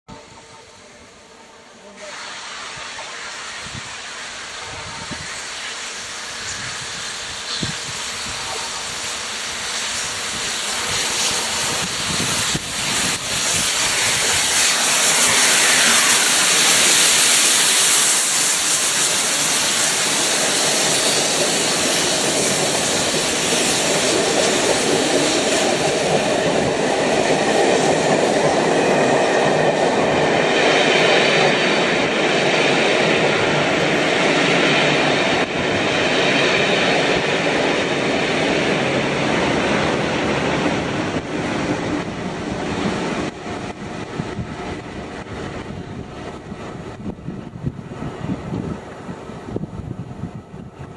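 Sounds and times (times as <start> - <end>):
steam locomotive passing at speed: 0.1 - 50.9.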